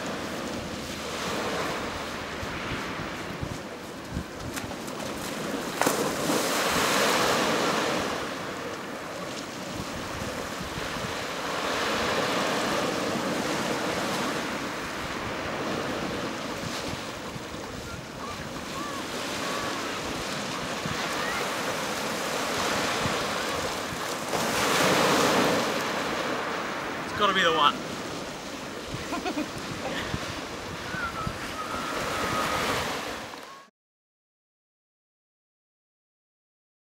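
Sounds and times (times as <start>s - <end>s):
wind rumbling on microphone: 0.0s - 26.4s, 27.9s - 33.7s
surf breaking on beach: 0.0s - 33.7s.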